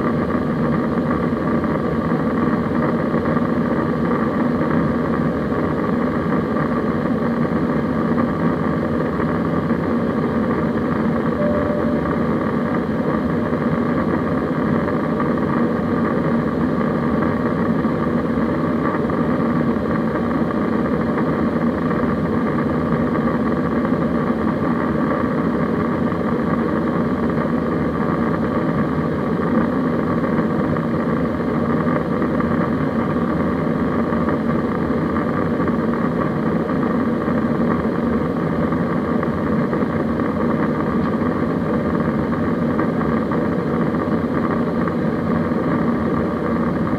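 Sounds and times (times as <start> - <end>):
airplane cabin drone: 0.0 - 46.9.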